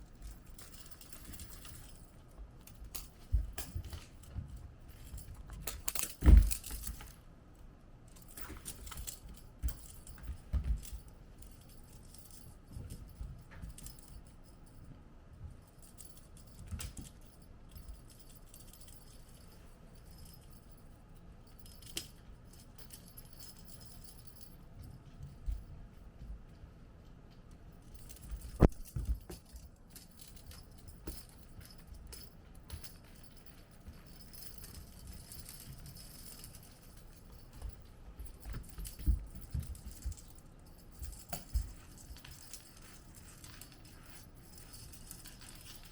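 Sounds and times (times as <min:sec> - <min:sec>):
toys jingling and rattling: 0:00.0 - 0:07.3, 0:08.1 - 0:25.8, 0:27.7 - 0:45.9.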